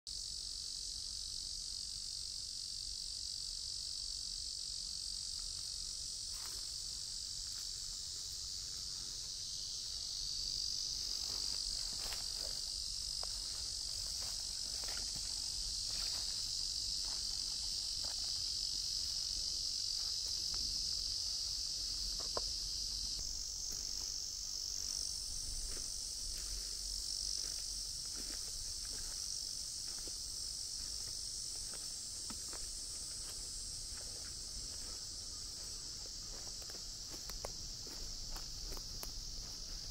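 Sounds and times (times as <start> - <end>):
insect chorus buzzing drone: 0.1 - 39.9.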